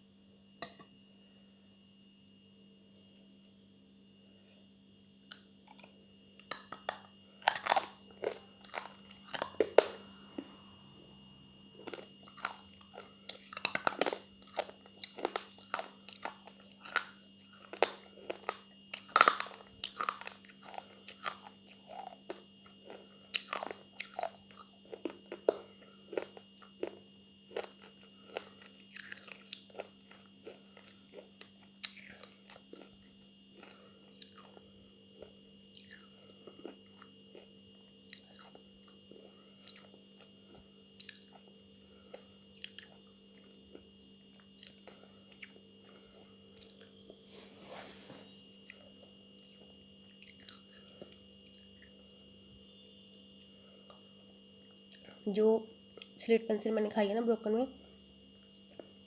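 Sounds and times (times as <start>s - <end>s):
crunchy chewing: 5.3s - 10.7s, 11.7s - 55.2s.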